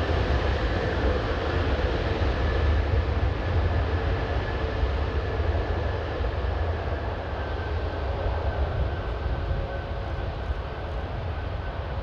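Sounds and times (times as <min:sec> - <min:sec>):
jet engines rumbling and whining: 0:00.0 - 0:12.0.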